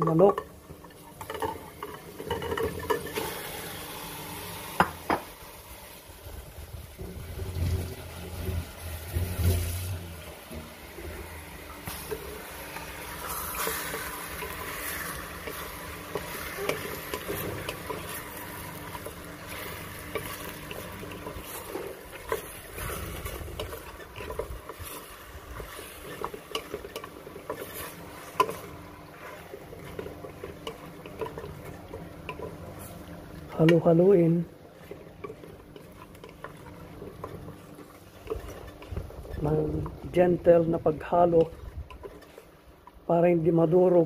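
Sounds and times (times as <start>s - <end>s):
utensil clinking and scraping pot: 0.0s - 5.3s, 7.3s - 43.0s
chicken sizzling in a pot: 0.0s - 44.0s.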